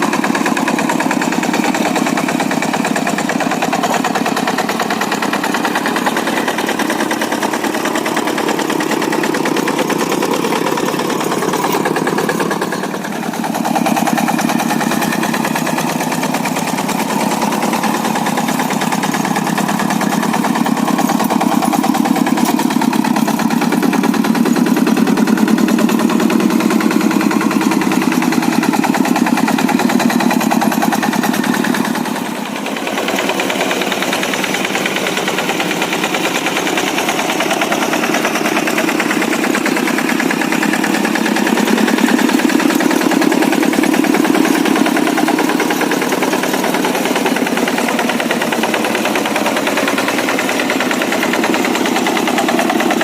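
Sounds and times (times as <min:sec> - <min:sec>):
diesel engine thumping: 0:00.0 - 0:53.0.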